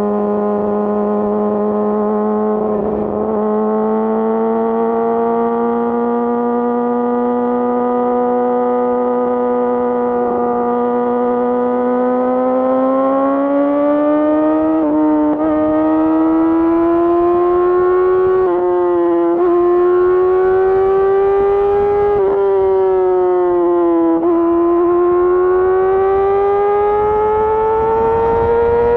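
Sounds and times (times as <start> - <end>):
motorcycle engine at high revs: 0.0 - 28.9.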